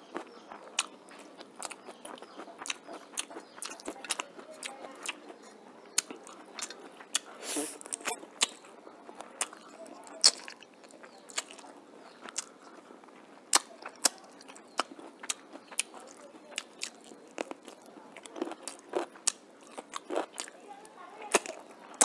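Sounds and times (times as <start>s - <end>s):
mouth clicks and smacks chewing: 0.1s - 20.6s, 21.2s - 22.0s.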